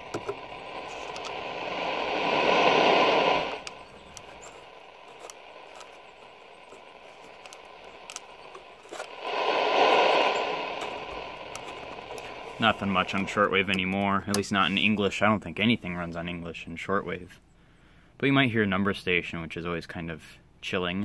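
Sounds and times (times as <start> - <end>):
radio crackles: 0.0 - 17.3
radio static hiss: 0.0 - 17.4.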